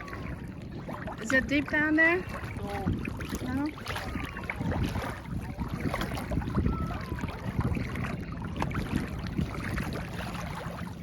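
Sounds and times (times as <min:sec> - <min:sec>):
water sloshing and splashing: 0:00.0 - 0:11.0
wind rumble on microphone: 0:00.0 - 0:11.0.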